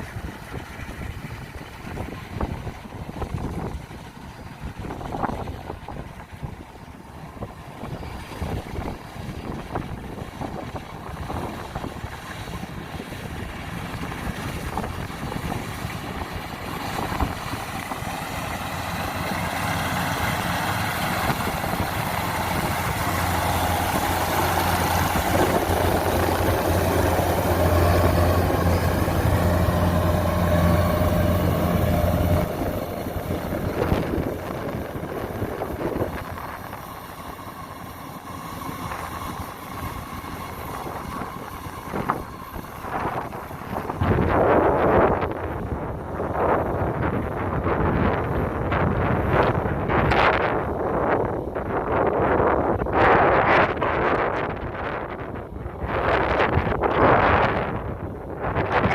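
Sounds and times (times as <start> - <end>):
combine harvester diesel engine: 0.0 - 58.9.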